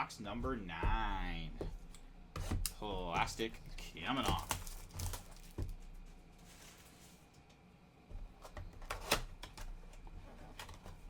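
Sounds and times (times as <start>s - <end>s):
cardboard packs rustling and tapping: 0.2s - 7.0s, 8.1s - 11.0s.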